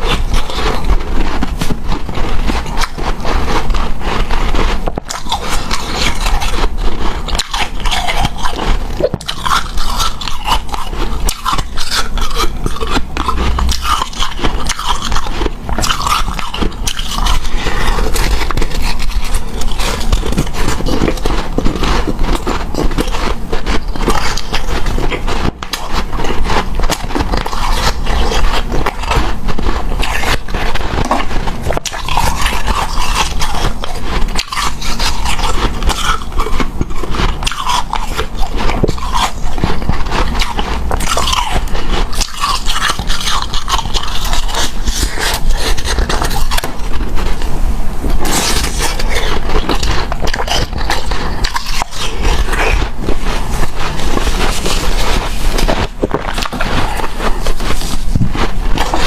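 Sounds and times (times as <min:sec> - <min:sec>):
chewing crunchy ice: 0:00.0 - 0:59.0.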